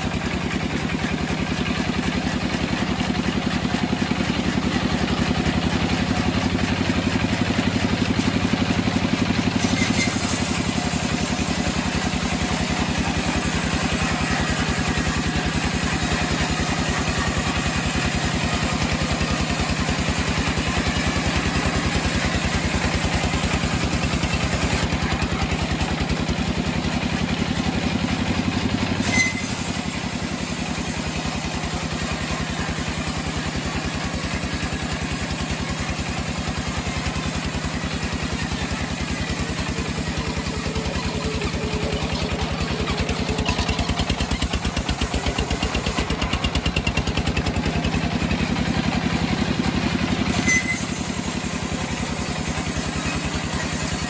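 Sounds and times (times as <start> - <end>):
band sawmill cutting wood: 0.0 - 54.0.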